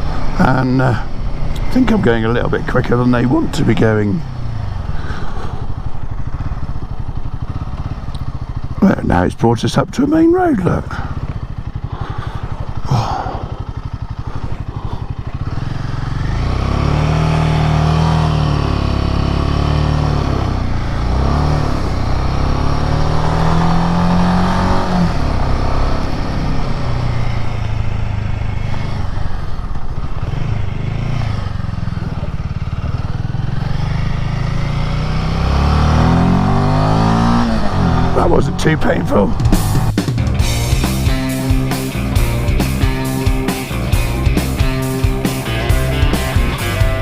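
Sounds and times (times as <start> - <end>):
motorcycle engine accelerating: 0.0 - 47.0
road noise: 0.0 - 47.0.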